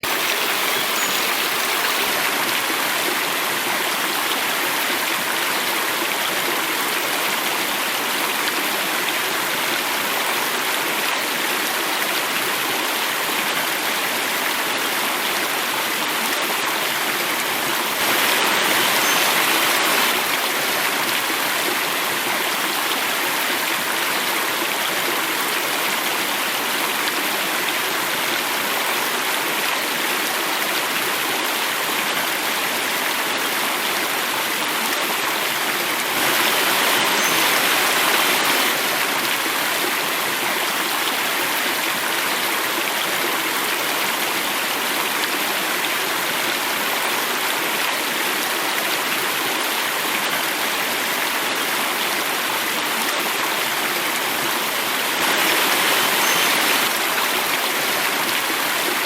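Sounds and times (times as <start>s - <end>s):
water falling in a small cascade: 0.0s - 59.0s.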